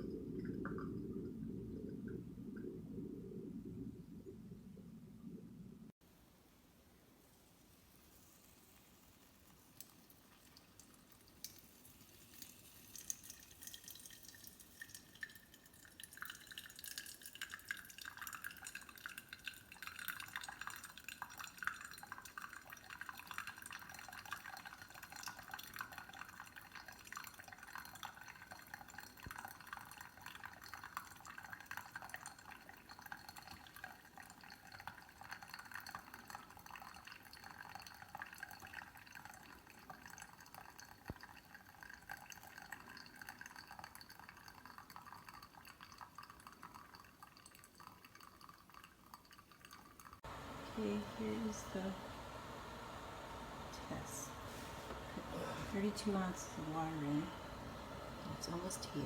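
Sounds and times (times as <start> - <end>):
kettle water crackling: 0.0 - 5.2, 7.2 - 59.0.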